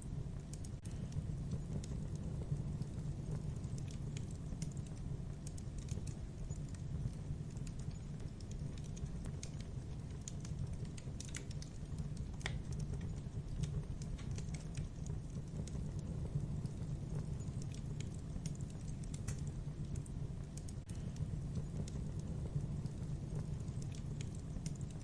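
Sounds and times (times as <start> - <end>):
burning logs crackling: 0.0 - 25.0
low fire rumble: 0.0 - 25.0.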